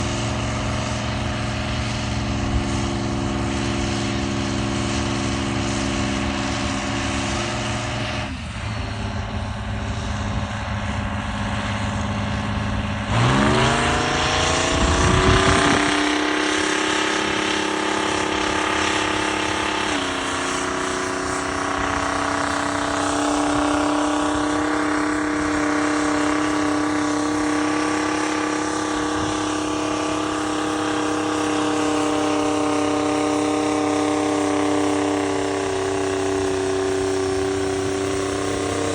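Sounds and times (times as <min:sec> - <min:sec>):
diesel tractor engine: 0:00.0 - 0:38.9.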